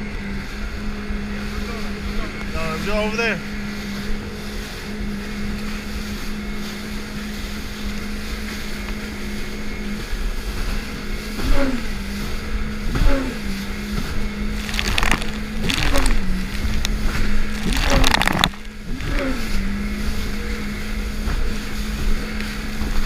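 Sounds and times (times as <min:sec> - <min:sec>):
jet ski engine running: 0:00.0 - 0:23.0
water slapping the hull: 0:03.6 - 0:23.0.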